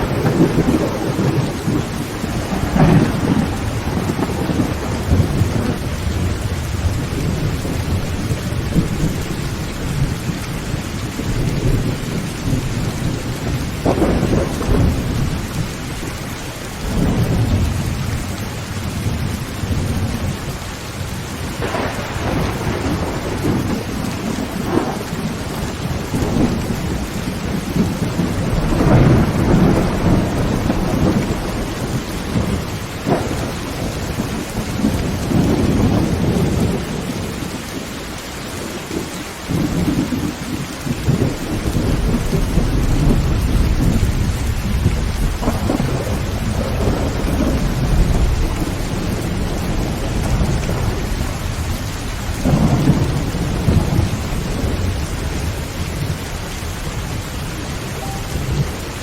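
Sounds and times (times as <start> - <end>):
thunder rolling: 0.0 - 37.8, 38.6 - 59.0
heavy rain on a tin roof: 0.0 - 59.0.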